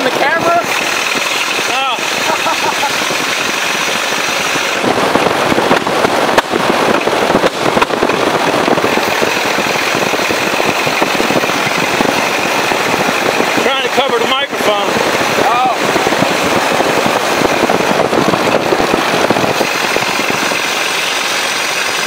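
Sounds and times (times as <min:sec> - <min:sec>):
car engine exhaust popping: 0:00.0 - 0:22.0.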